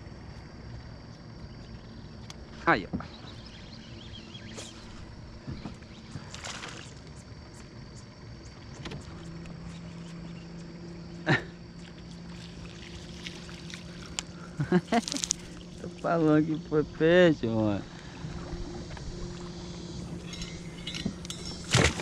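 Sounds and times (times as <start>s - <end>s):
electric boat motor humming: 0.2s - 22.0s.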